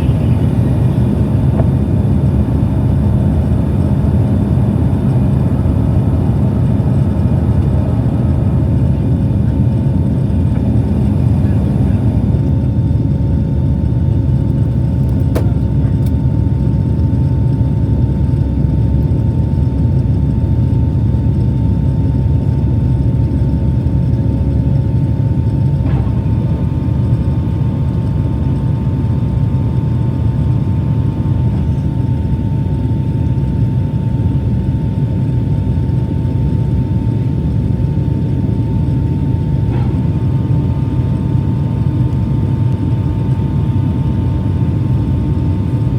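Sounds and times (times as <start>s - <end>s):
airplane engine rumble: 0.0s - 45.9s
steady engine whine: 0.0s - 45.9s.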